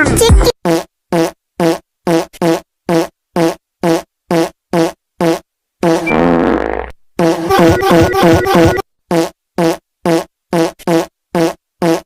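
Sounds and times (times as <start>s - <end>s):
fart sound effects: 0.4s - 12.0s.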